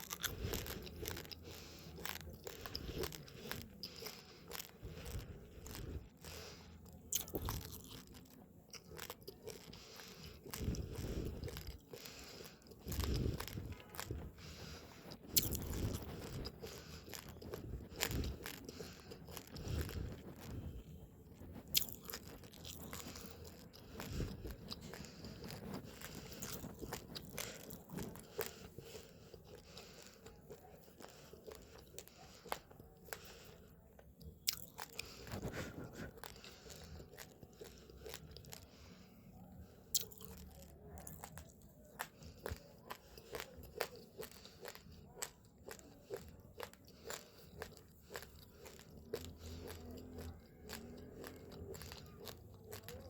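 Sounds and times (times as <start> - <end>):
uncooked rice being chewed: 0.0 - 53.0.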